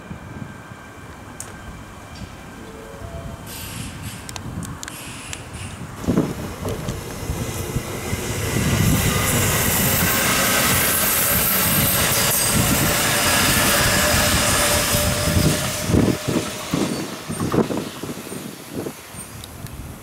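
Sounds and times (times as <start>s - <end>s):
train wheels rushing on rail: 0.0s - 20.0s.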